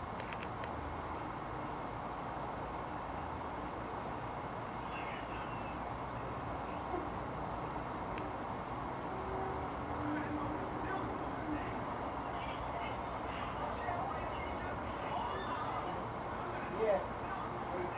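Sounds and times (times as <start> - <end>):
crickets chirring: 0.0 - 17.9
faint background hiss: 0.0 - 17.9.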